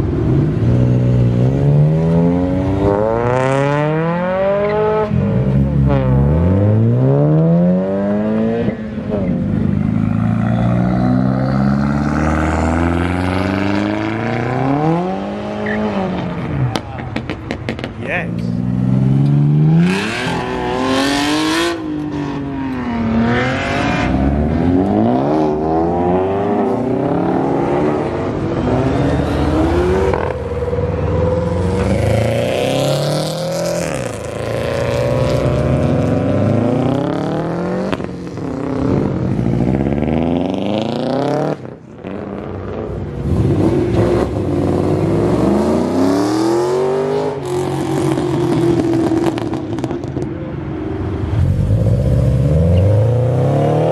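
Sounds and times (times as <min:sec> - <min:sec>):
car engines revving and accelerating: 0:00.0 - 0:53.9.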